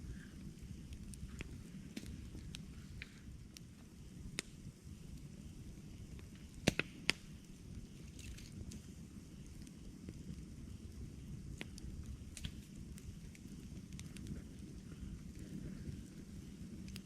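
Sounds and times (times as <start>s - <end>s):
campfire low rumble: 0.0s - 17.0s
fire crackling pops and snaps: 0.0s - 17.0s.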